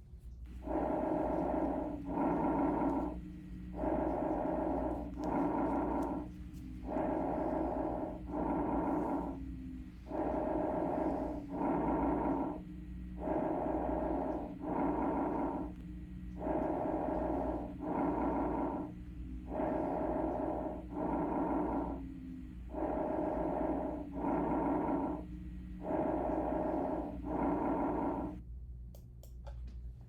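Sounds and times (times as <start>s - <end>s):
bronchovesicular breath sounds: 0.5s - 28.4s.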